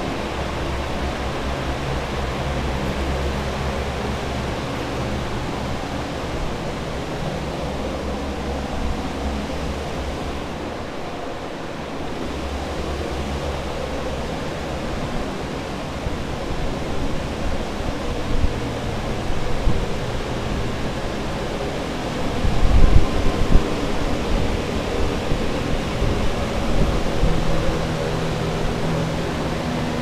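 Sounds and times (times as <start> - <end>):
air movers rushing air: 0.0 - 30.0.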